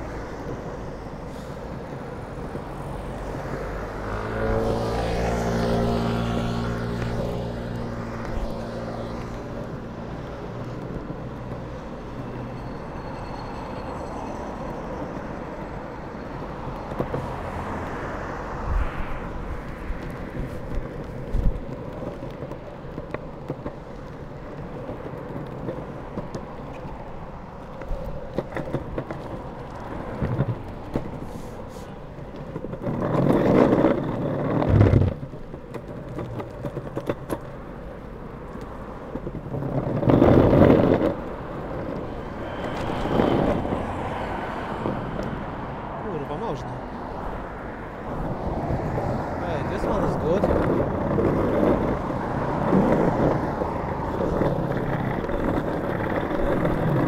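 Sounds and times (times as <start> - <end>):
road traffic passing: 0.0 - 57.0
skateboard wheels rumbling on asphalt: 0.0 - 57.0
wheels rumbling over brick paving: 0.0 - 57.0.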